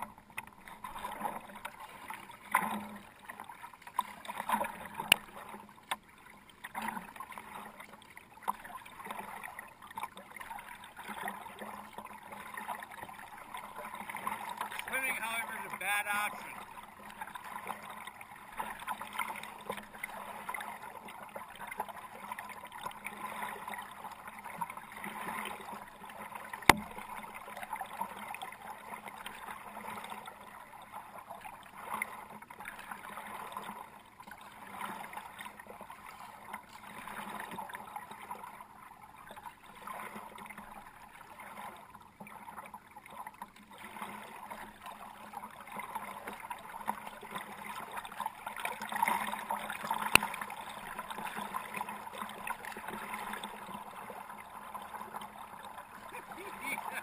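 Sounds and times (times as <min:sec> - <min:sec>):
paddle splashing water: 0:00.0 - 0:57.0.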